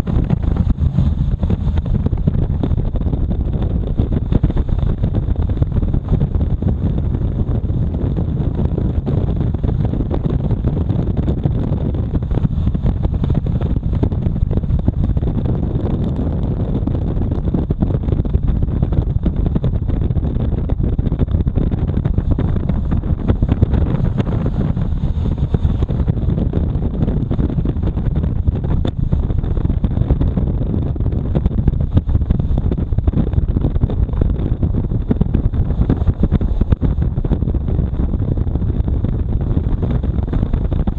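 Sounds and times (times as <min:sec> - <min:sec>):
motorcycle engine and road noise: 0:00.0 - 0:40.9
wind rumble on microphone: 0:00.0 - 0:40.9.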